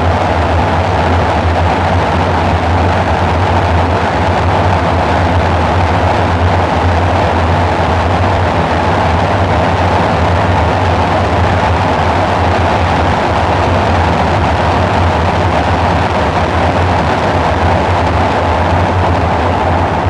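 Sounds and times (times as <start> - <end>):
dark ambient synthesizer drone: 0.0 - 20.0.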